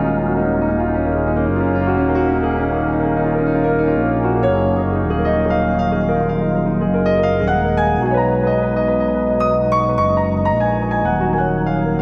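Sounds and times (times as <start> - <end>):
keyboard music with held chords: 0.0 - 12.0.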